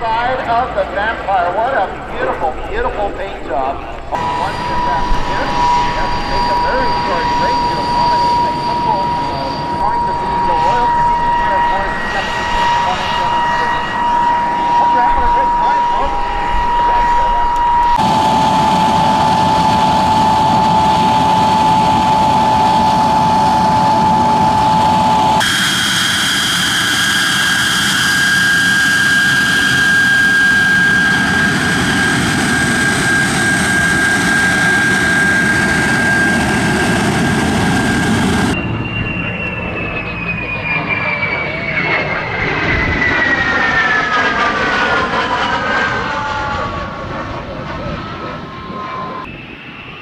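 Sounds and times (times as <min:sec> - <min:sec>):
jet engine whine and rumble: 0:00.0 - 0:50.0.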